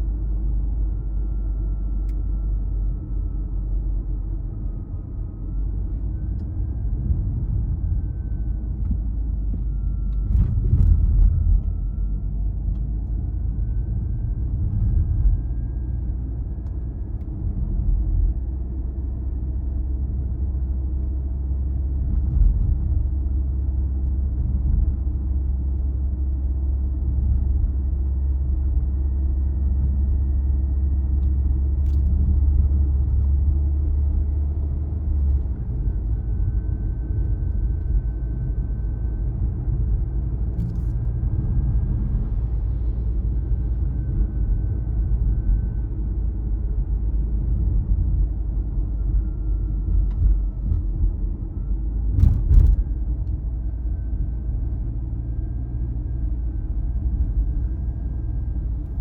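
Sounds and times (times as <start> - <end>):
faint whine: 0.0 - 59.0
car and tyre rumble: 3.8 - 59.0.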